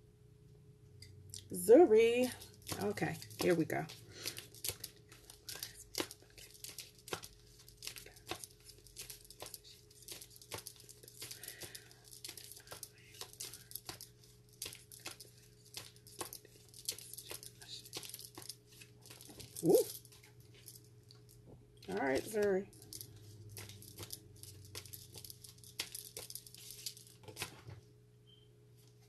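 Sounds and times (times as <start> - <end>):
cards being shuffled: 2.1 - 20.8, 21.9 - 27.7.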